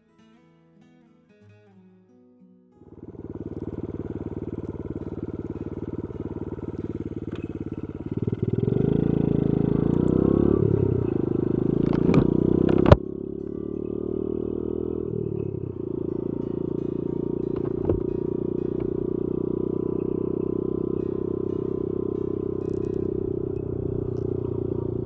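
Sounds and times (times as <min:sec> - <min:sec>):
small motorcycle engine running: 0:02.8 - 0:25.0.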